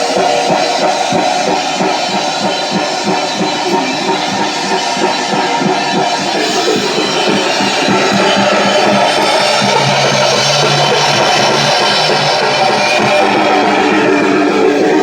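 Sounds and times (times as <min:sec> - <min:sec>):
drum kit playing: 0:00.0 - 0:15.0
held low notes: 0:00.0 - 0:15.0.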